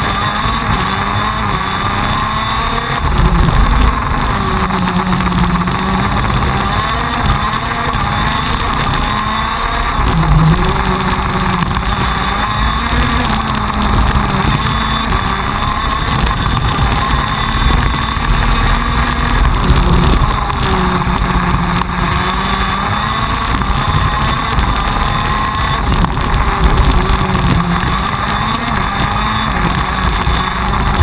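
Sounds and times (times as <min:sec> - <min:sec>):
kart engine revving: 0:00.0 - 0:31.0.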